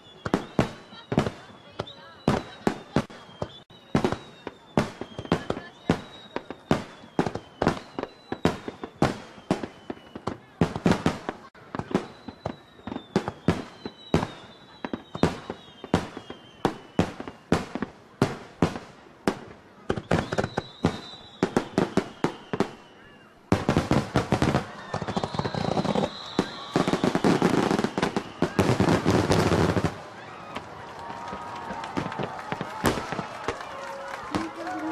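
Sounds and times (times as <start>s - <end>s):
fireworks whistles sliding downward: 0.0s - 17.8s, 19.9s - 34.9s
fireworks bangs: 0.0s - 34.9s.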